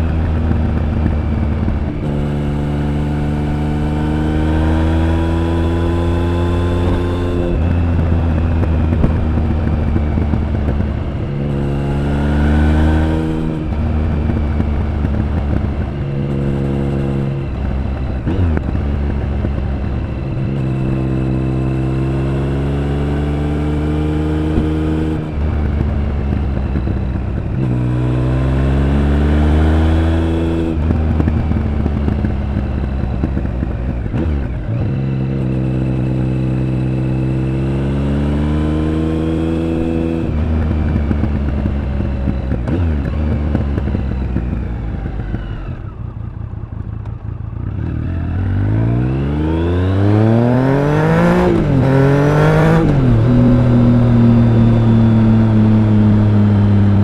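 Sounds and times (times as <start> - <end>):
motorcycle engine revving with upshifts: 0.0 - 57.0.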